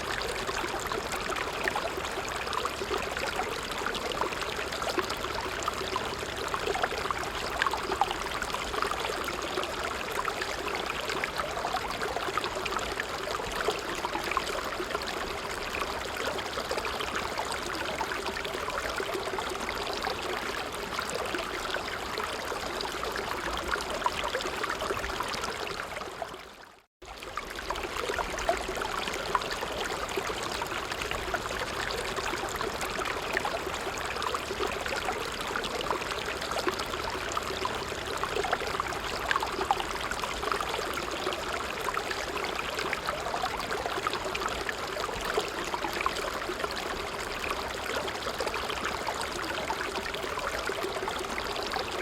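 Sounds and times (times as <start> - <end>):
stream running over stones: 0.0 - 52.0.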